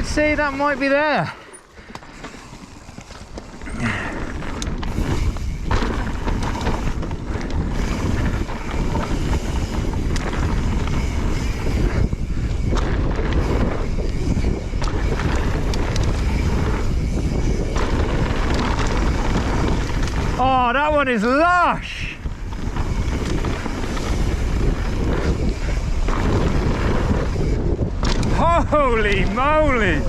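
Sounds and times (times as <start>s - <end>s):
wind rushing over microphone: 0.0s - 1.2s, 1.8s - 30.0s
bike tyres rumbling and rattling: 0.0s - 30.0s.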